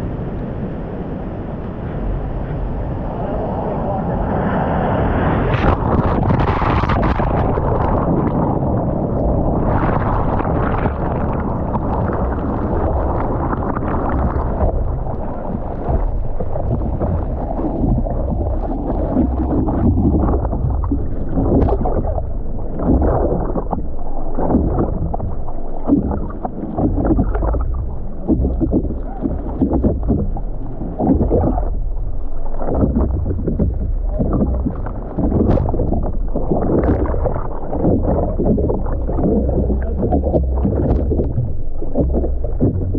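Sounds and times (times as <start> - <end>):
muffled low rumble: 0.0 - 42.9
ocean water sloshing and splashing: 0.0 - 42.9.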